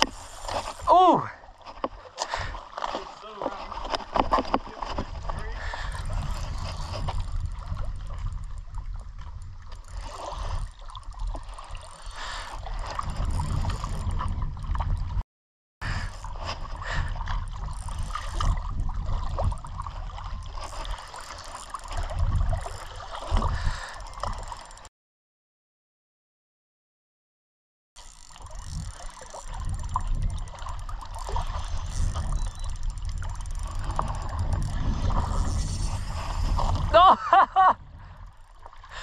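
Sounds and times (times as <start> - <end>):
water gurgling and sloshing: 0.0 - 15.2, 15.8 - 24.9, 28.0 - 39.0.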